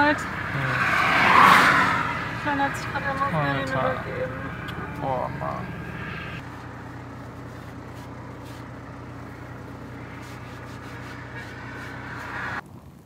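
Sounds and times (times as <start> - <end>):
van engine running: 0.0 - 12.6.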